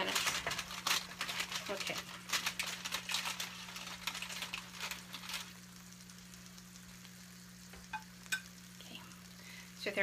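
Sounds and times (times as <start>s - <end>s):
light crackling and clicking: 0.0s - 9.4s.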